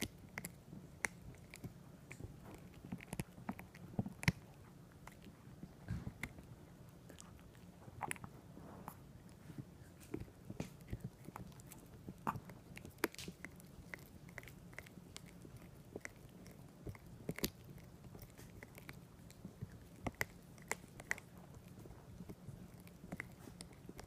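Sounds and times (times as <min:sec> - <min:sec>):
dog chewing on something hard: 0:00.0 - 0:24.0.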